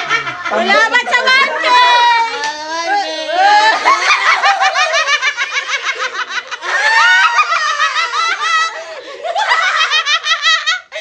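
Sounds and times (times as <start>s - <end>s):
group of people laughing: 0.0s - 11.0s.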